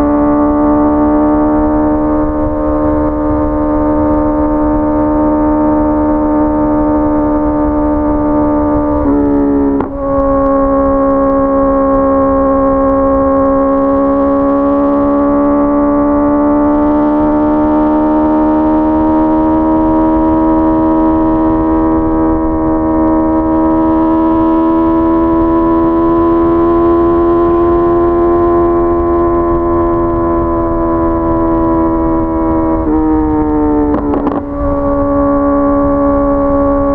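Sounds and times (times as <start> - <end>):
motorcycle engine at high revs: 0.0 - 36.9
road rumble: 0.0 - 36.9
wind noise: 0.0 - 36.9.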